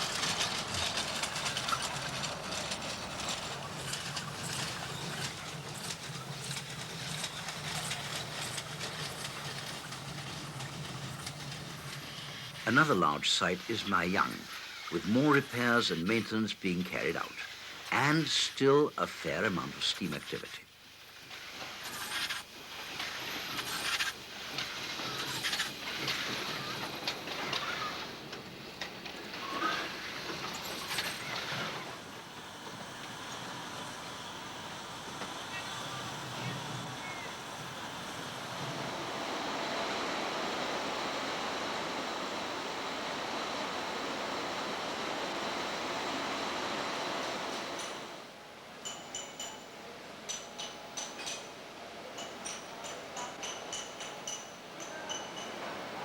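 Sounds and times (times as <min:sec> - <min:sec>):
steam train running: 0:00.0 - 0:56.0.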